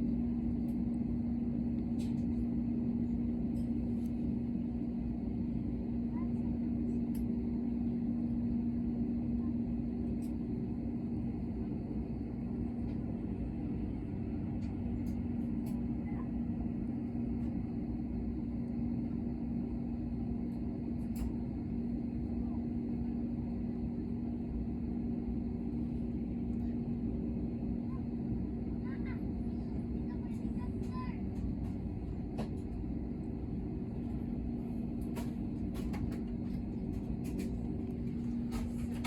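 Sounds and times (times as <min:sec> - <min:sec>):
airliner engines droning: 0:00.0 - 0:39.0.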